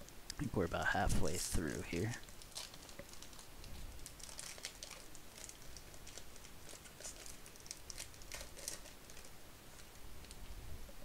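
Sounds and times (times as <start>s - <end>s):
foil wrapper crinkling: 1.2s - 10.4s.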